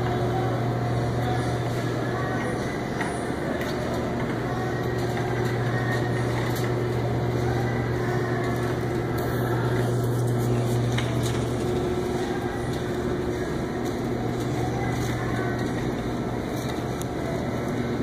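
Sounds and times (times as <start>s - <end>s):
shopping cart rolling: 0.0s - 18.0s.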